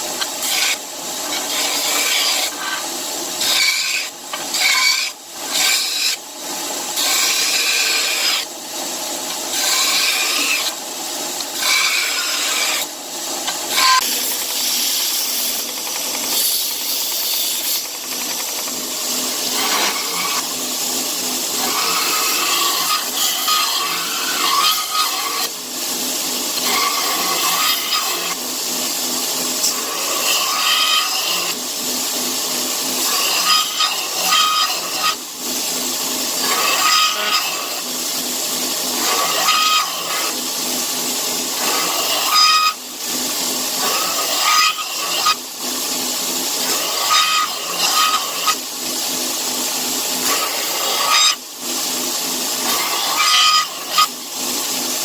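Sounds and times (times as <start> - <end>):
power tool running: 0.0 - 55.0.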